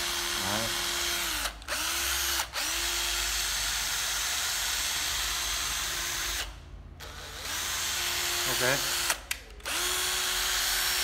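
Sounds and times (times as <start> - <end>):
cordless drill motor whining: 0.0 - 11.0.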